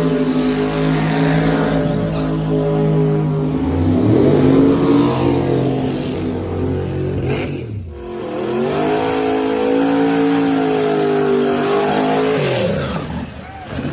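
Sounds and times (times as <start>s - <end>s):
engine revving high: 0.0s - 13.9s.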